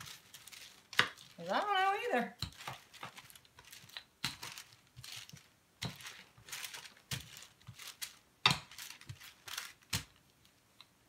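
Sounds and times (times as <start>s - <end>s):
parchment paper crinkling: 0.0s - 10.7s.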